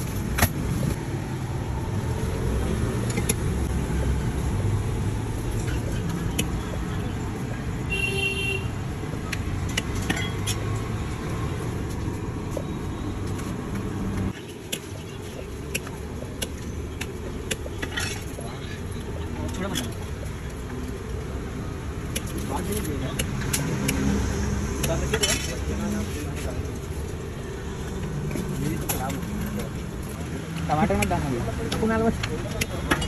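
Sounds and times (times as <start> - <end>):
traffic noise: 0.0 - 33.0.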